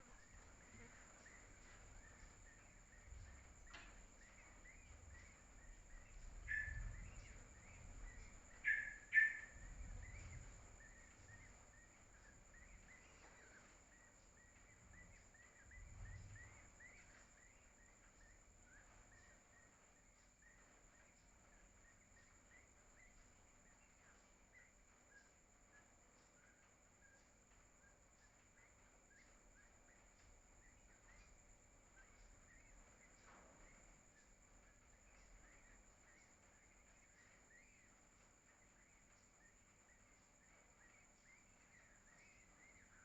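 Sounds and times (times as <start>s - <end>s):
birds chirping: 0.0s - 43.0s
low background rumble: 0.0s - 43.0s.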